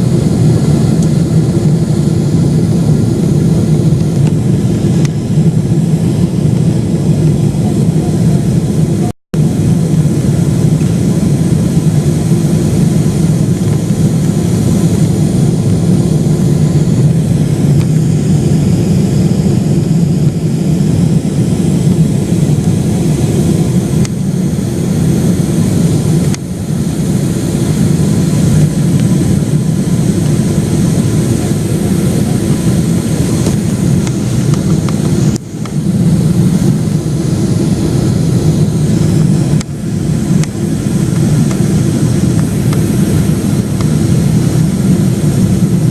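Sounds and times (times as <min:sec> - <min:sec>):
jet engines rumbling: 0:00.0 - 0:45.9.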